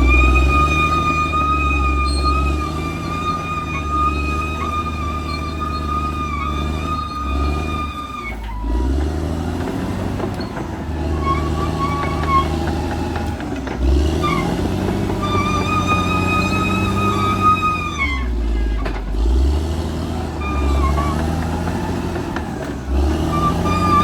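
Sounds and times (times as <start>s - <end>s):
bulldozer diesel engine: 0.0s - 24.0s.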